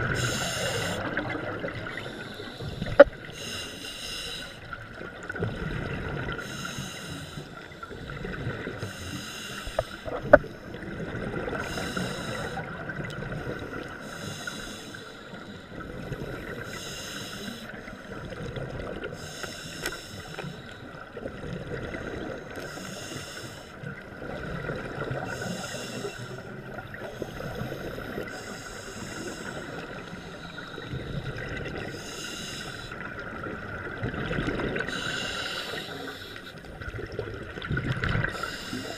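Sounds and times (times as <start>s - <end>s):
exhaled bubbles underwater: 0.0s - 3.5s, 4.4s - 9.0s, 9.7s - 14.6s, 15.3s - 19.6s, 20.5s - 38.9s
low watery rumble: 0.0s - 38.9s.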